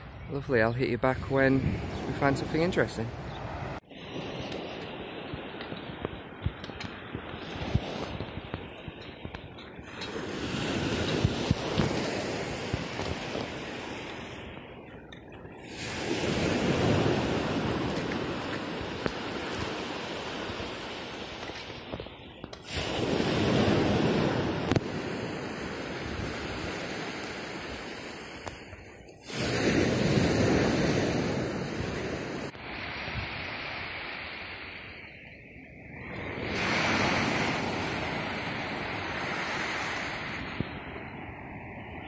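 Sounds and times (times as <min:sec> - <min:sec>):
wind: 0:00.0 - 0:42.0
sea waves washing onto shore: 0:01.5 - 0:42.0.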